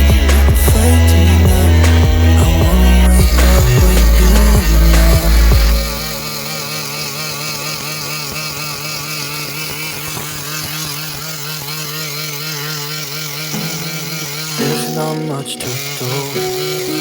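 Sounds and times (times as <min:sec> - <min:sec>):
engine running with wavering pitch: 0:00.0 - 0:17.0.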